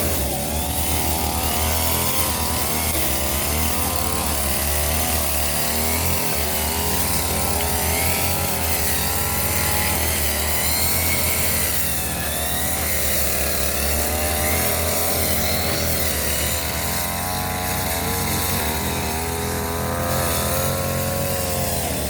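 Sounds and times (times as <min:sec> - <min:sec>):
brush cutter engine running hard: 0:00.0 - 0:22.0.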